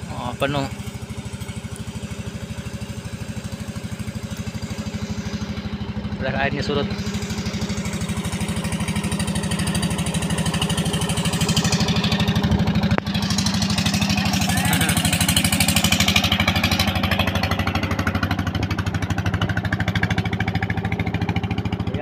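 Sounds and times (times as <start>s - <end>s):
boat engine pulsing: 0.0s - 22.0s.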